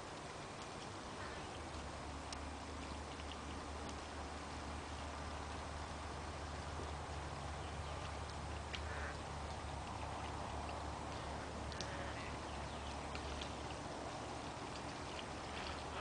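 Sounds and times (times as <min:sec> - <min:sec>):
low hum: 0:00.0 - 0:16.0
outdoor hiss: 0:00.0 - 0:16.0.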